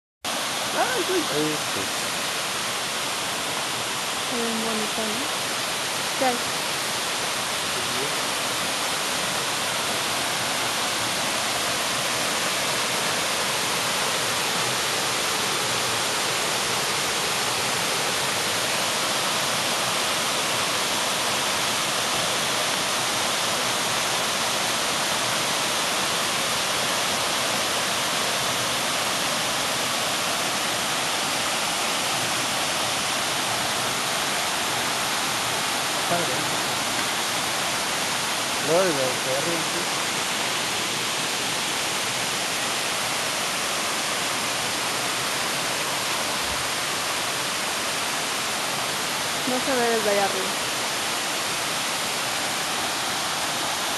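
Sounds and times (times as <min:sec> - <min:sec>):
waterfall rushing over rock: 0:00.3 - 0:53.9.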